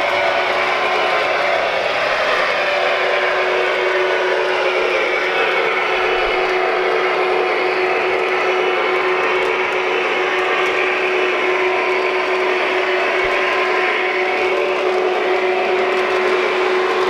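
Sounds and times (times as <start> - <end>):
model train motor whirring: 0.0 - 17.0
train wheels rolling: 0.0 - 17.0.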